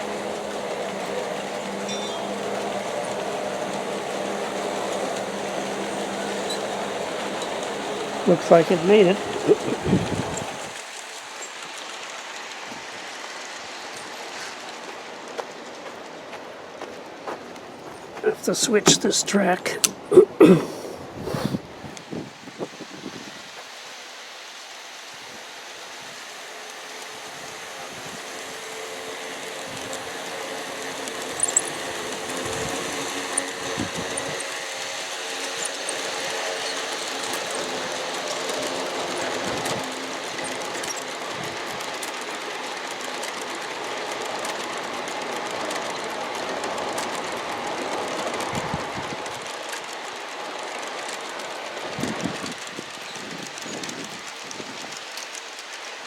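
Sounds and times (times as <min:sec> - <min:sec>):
model train motor and gear hum: 0:00.0 - 0:56.0
train wheel noise: 0:00.0 - 0:56.0.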